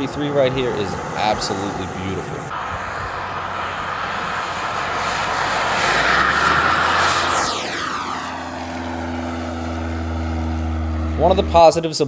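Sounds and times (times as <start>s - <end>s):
high whine falling in pitch: 0.0s - 12.0s
model jet turbine passing by: 0.0s - 12.0s.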